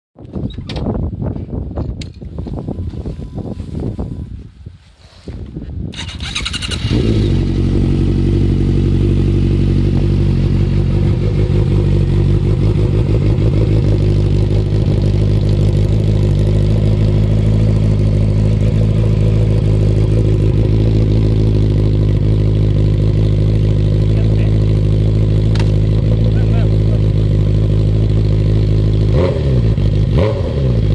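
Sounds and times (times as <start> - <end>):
motorcycle engine starting and idling: 5.9 - 30.9.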